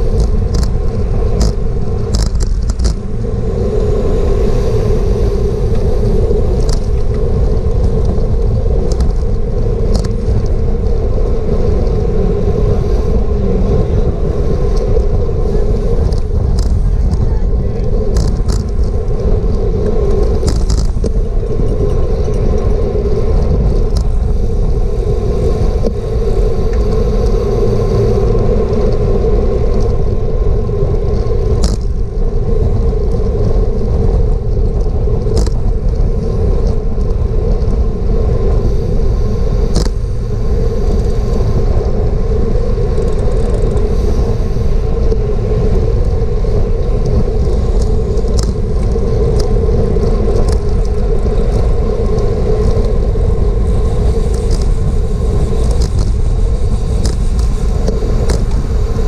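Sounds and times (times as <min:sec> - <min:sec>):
bike tyre noise: 0:00.0 - 0:59.0
wind rumble: 0:00.0 - 0:59.0.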